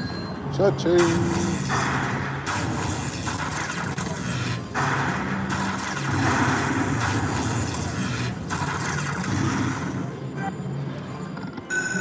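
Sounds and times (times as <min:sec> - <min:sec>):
slot machine electronic rumble: 0:00.9 - 0:12.0.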